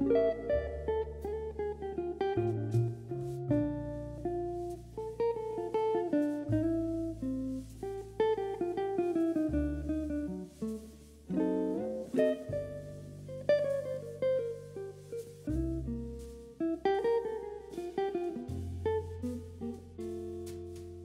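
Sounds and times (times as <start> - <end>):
held bass notes: 0.0 - 21.0
plucked guitar melody: 0.0 - 21.0.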